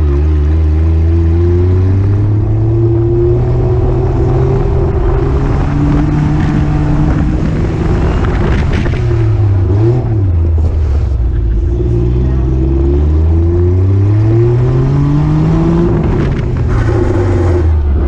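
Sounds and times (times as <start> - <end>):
car engine running at high revs: 0.0 - 18.0.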